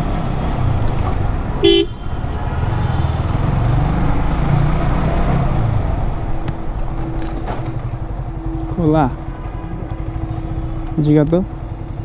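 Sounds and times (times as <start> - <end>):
motorcycle engine and road rumble: 0.0 - 12.0.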